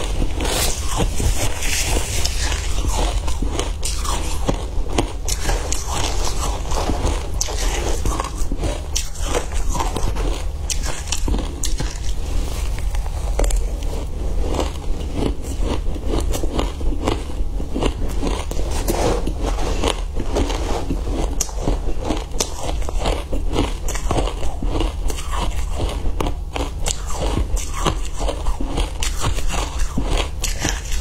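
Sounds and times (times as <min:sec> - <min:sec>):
crunching and chewing ice: 0:00.0 - 0:31.0.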